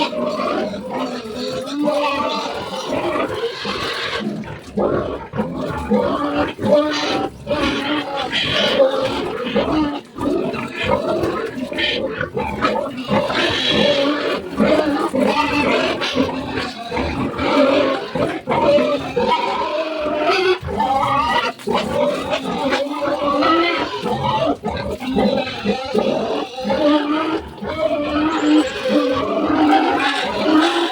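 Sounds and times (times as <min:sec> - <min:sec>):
pigs calling loudly: 0:00.0 - 0:30.9.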